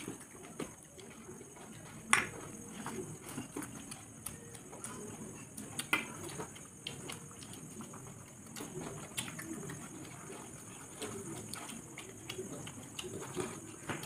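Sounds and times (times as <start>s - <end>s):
chewing mouth sounds: 0.0s - 14.0s
wet squishing of rice: 0.0s - 14.0s.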